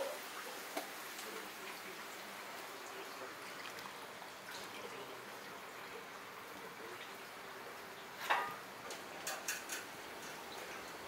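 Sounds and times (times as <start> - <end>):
water boiling hard: 0.0 - 11.0.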